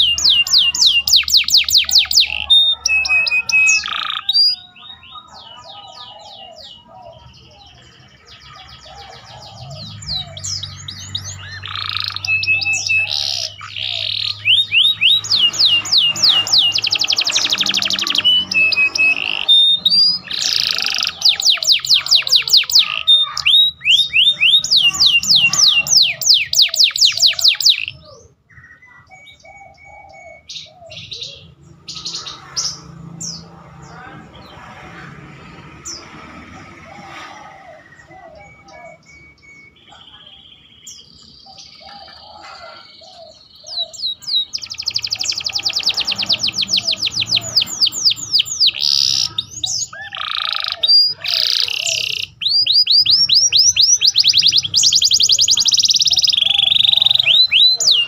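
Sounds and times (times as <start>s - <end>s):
canary singing rapid trills: 0.0s - 58.0s.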